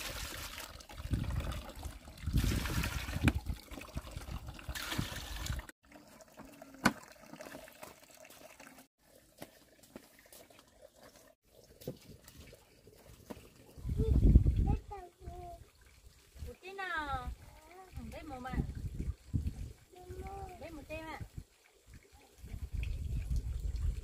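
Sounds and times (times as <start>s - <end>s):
water splashing and running: 0.0s - 24.0s.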